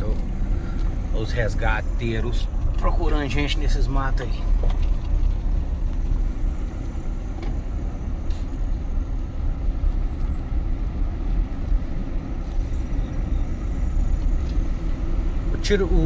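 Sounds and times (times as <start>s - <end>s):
car driving heard from inside: 0.0s - 16.0s.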